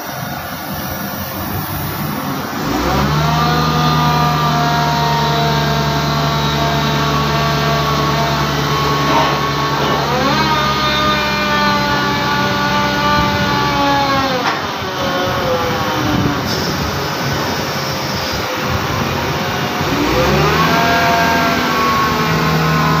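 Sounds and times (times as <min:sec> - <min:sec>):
engine revving: 0:00.0 - 0:23.0
heavy engine machinery running: 0:00.0 - 0:23.0.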